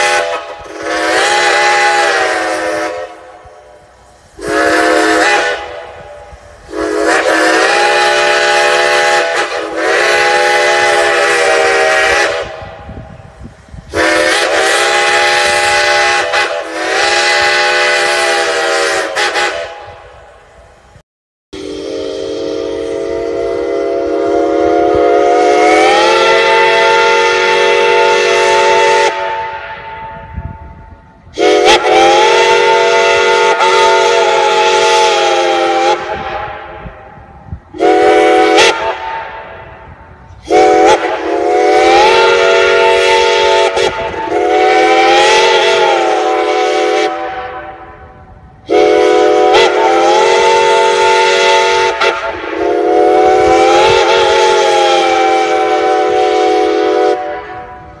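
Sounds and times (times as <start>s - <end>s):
steam whistle blasts: 0.0s - 20.6s, 21.6s - 58.0s.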